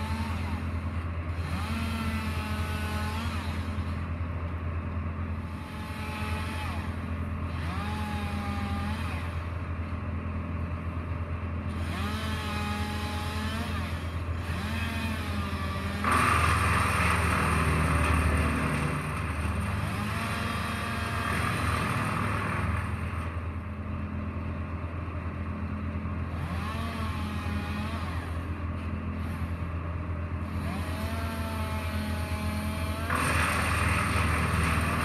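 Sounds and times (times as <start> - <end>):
wood chipper engine droning: 0.0 - 35.0.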